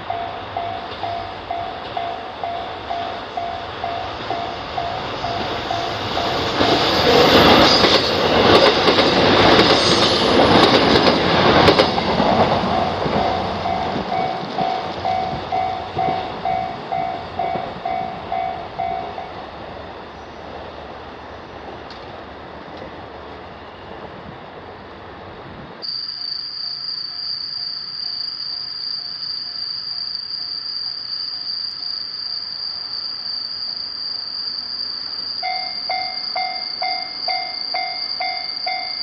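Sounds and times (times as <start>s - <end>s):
level crossing warning bell: 0.0s - 19.6s, 25.8s - 39.0s
train passing: 0.0s - 39.0s.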